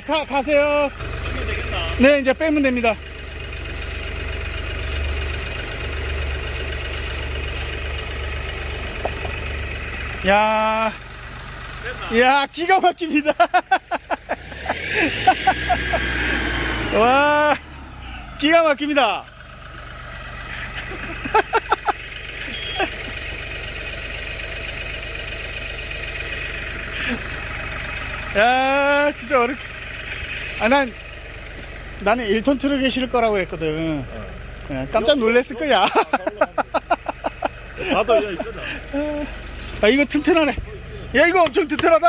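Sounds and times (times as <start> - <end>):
heavy machine engine idling: 0.0 - 42.0.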